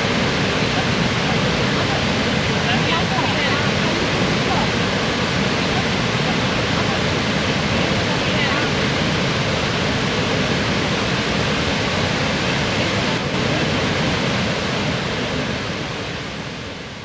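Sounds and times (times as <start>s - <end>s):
waterfall and rushing river: 0.0s - 17.0s.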